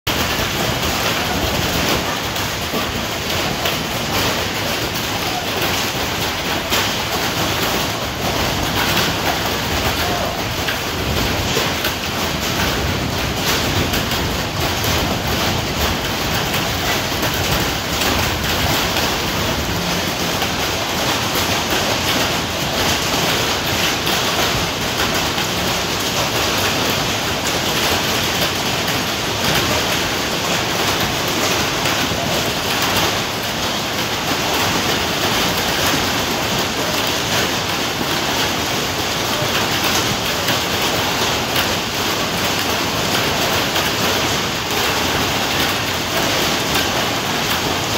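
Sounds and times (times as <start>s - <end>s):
hail clattering: 0.1s - 47.9s.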